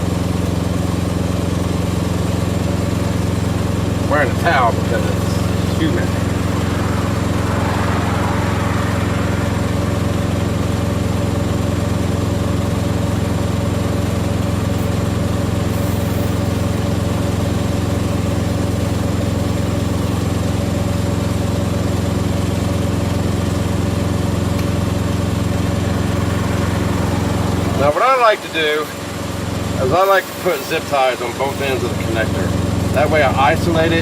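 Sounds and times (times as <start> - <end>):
diesel truck engine idling: 0.0 - 34.0.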